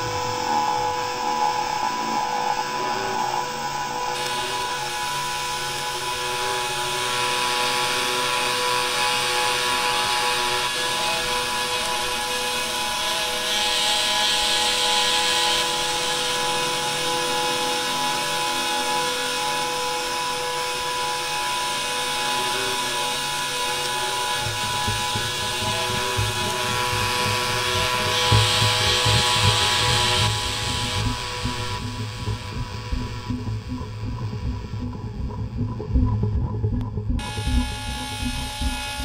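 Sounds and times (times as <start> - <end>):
bright hiss: 0.0 - 33.8
dense noise with held tones: 0.0 - 39.0.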